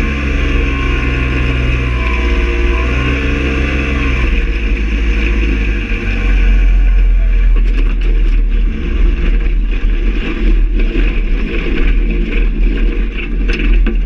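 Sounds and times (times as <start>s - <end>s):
paramotor engine running low: 0.0s - 14.0s
wheels and frame rattling: 0.0s - 14.0s
wind rumble on microphone: 0.0s - 14.0s.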